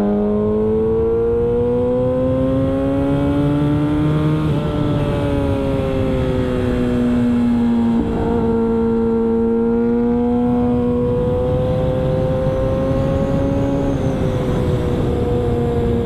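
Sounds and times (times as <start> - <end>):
motorbike engine at high revs: 0.0 - 16.0.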